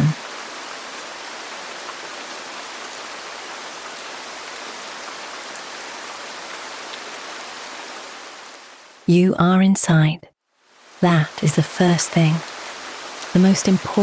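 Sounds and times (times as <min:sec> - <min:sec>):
rain on a roof: 0:00.0 - 0:09.1, 0:10.6 - 0:14.0.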